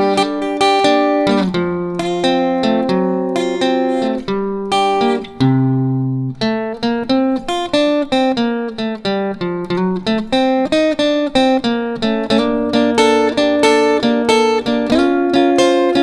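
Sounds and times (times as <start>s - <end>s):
solo electric guitar chords: 0.0s - 16.0s.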